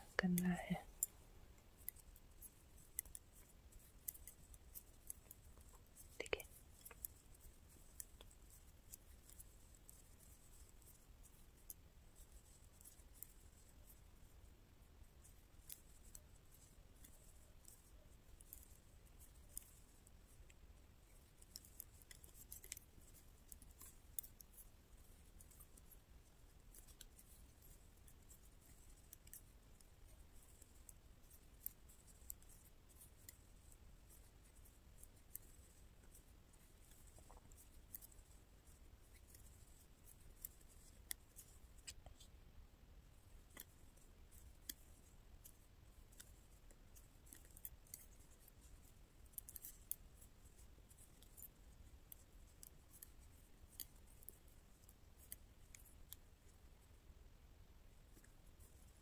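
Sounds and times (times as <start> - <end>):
knitting needles clicking: 0.0 - 14.3, 15.3 - 42.3, 43.3 - 56.4.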